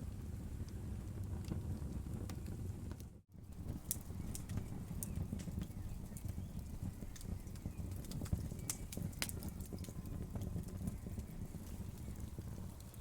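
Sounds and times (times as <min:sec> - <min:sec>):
low rumble of burning logs: 0:00.0 - 0:13.0
wood fire crackling and popping: 0:00.0 - 0:13.0.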